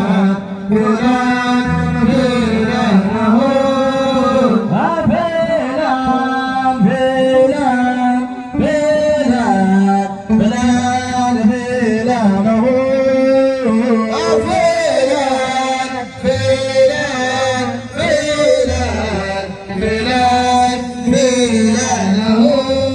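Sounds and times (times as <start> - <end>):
men singing slow folk song: 0.0 - 22.9.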